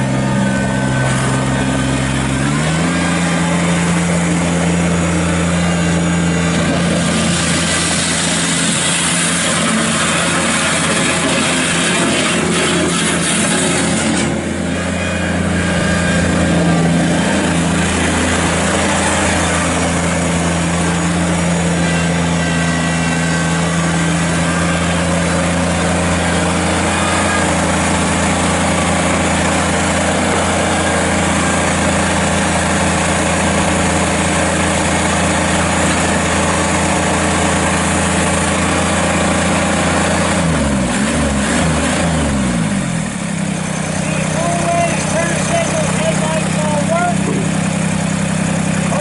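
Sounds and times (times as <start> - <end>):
tyres on gravel: 0.0 - 40.9, 42.0 - 49.0
tractor diesel engine running: 0.0 - 49.0.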